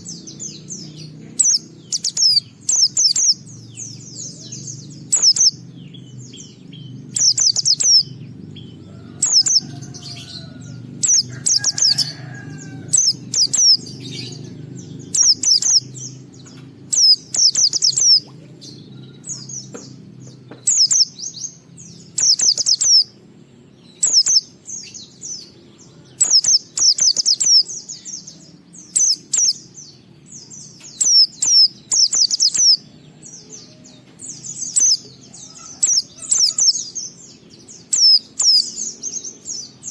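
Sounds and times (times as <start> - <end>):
bird high twittering song: 0.0 - 39.9
low steady hum: 0.0 - 39.9.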